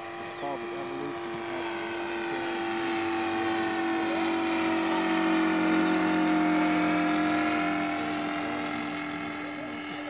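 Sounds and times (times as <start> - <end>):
model airplane engine buzzing: 0.0 - 10.0.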